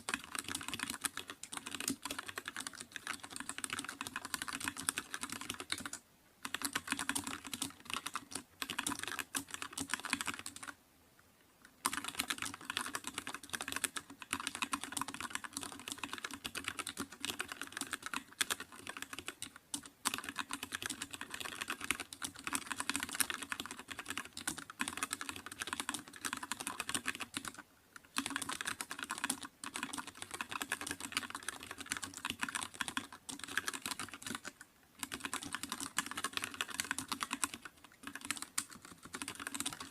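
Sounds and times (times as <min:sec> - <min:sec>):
fast keyboard typing: 0:00.0 - 0:10.8, 0:11.8 - 0:39.9.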